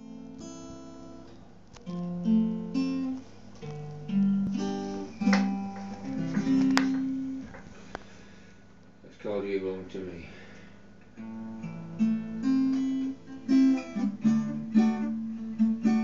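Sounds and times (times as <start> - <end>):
acoustic guitar: 0.0 - 8.6, 11.1 - 16.0.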